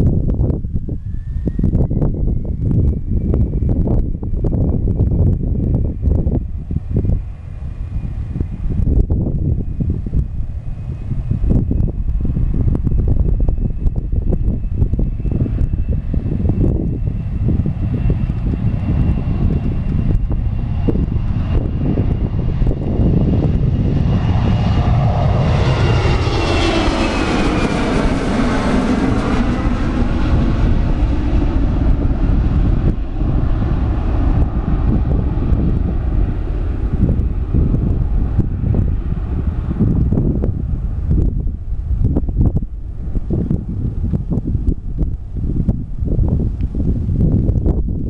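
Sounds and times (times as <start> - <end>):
jet engines at takeoff: 0.0 - 48.0
wind buffeting microphone: 0.0 - 48.0.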